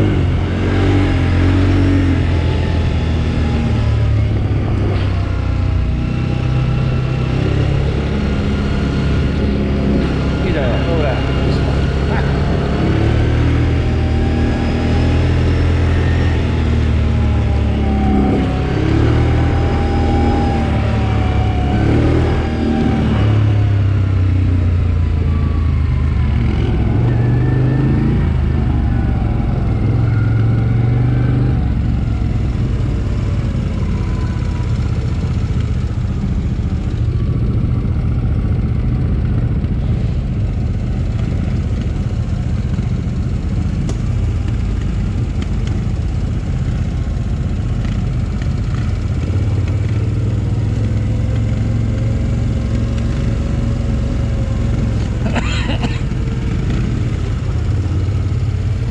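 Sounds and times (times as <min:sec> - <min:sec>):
quad bike engine revving: 0:00.0 - 0:58.9.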